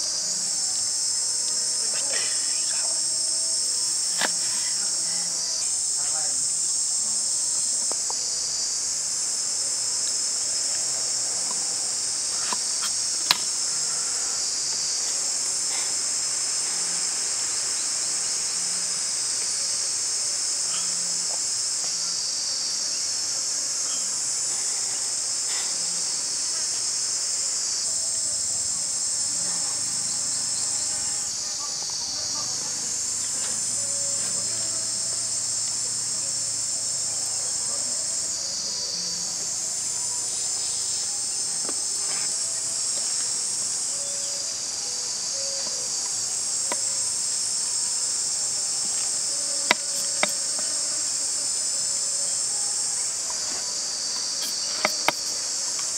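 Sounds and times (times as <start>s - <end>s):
high-pitched insect chorus buzzing: 0.0s - 55.9s.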